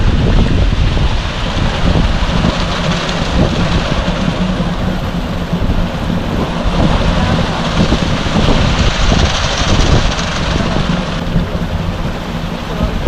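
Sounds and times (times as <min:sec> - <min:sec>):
concrete mixer truck humming: 0:00.0 - 0:13.0
wet concrete pouring: 0:00.0 - 0:13.0.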